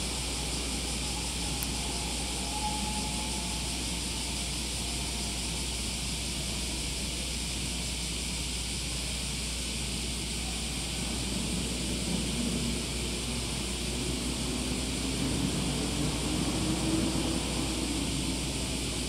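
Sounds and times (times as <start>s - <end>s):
distant train rushing hiss: 0.0s - 19.0s.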